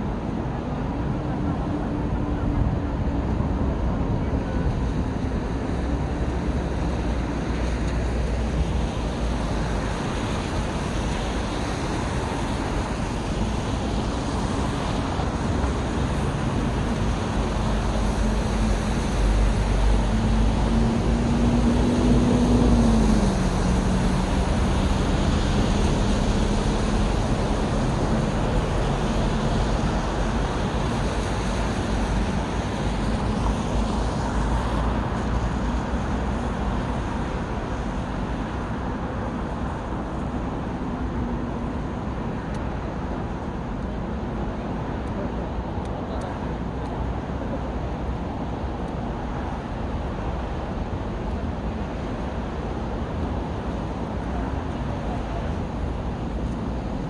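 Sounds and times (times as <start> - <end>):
city road traffic: 0.0 - 57.0
vehicle engine hum: 0.0 - 57.0.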